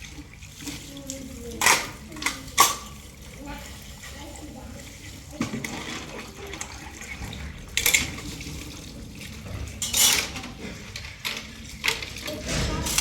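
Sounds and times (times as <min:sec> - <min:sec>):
water gushes: 0:00.0 - 0:13.0.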